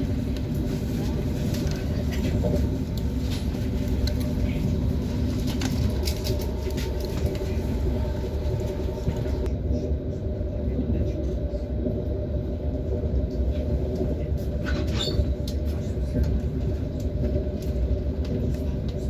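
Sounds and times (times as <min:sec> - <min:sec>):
electric train hum: 0:00.0 - 0:19.0
train wheels rumbling on rails: 0:00.0 - 0:19.0.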